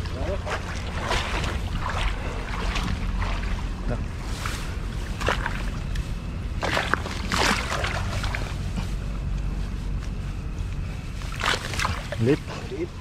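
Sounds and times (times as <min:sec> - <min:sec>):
steady low rumble: 0:00.0 - 0:13.0
water splashing and sloshing: 0:00.0 - 0:13.0.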